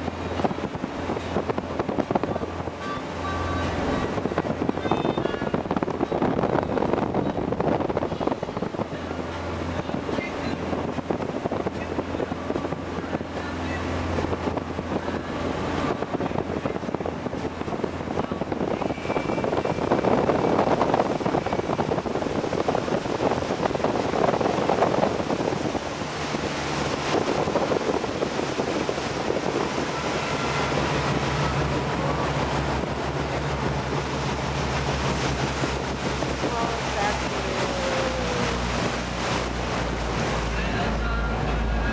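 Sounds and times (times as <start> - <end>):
boat engine humming: 0.0 - 41.9
water rushing along hull: 0.0 - 41.9
wind buffeting microphone: 0.0 - 41.9.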